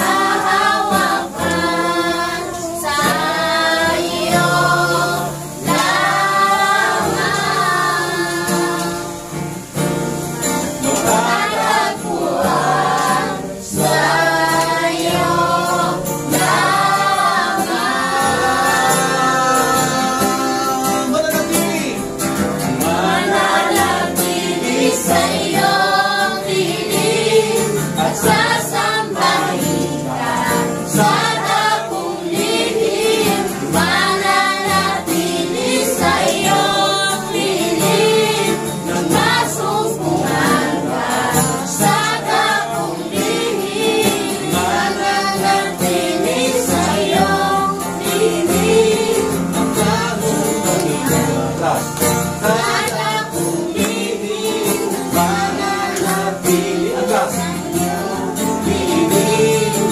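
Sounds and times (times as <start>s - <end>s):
congregation singing praise song: 0.0s - 59.9s.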